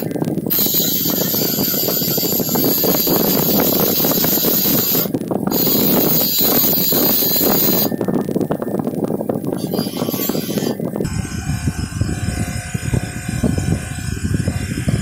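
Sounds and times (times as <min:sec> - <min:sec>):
bench grinder squealing on metal: 0:00.0 - 0:08.0, 0:09.6 - 0:15.0.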